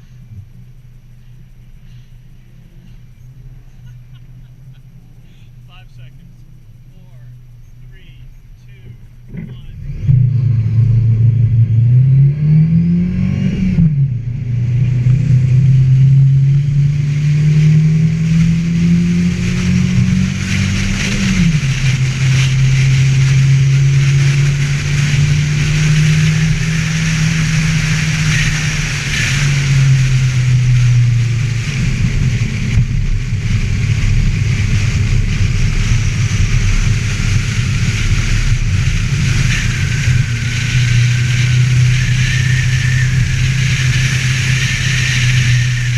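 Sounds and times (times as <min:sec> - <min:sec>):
car engine accelerating hard: 0:00.0 - 0:45.9
wind and road noise hiss: 0:00.0 - 0:45.9.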